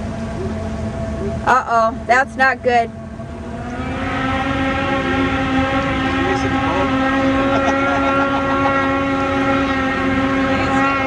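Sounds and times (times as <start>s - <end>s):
high-revving engine: 0.0s - 11.0s.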